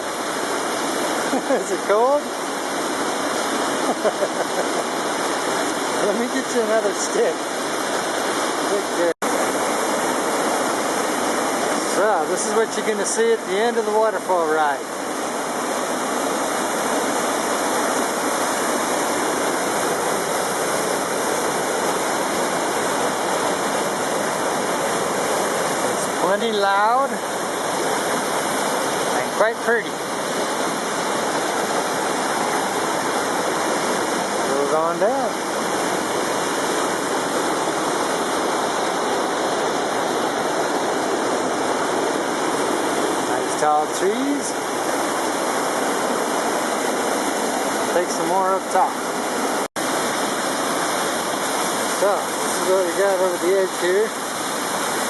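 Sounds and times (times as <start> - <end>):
waterfall pouring and crashing: 0.0 - 55.0.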